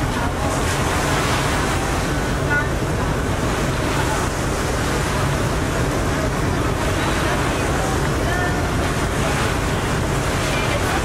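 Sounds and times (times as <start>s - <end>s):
low engine rumble: 0.0s - 11.0s
water rushing along ferry hull: 0.0s - 11.0s
wind on microphone: 0.0s - 11.0s.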